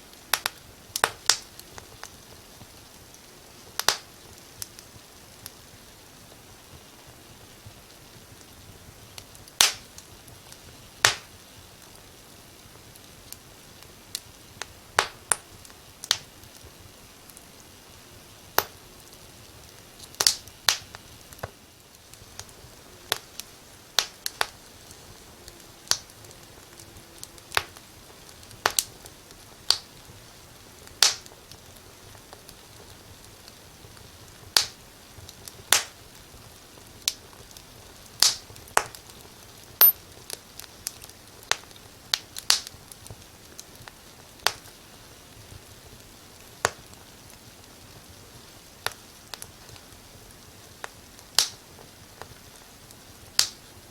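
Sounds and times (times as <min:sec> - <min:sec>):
faint steady hiss: 0:00.0 - 0:53.9
fire crackling and popping: 0:00.0 - 0:53.9.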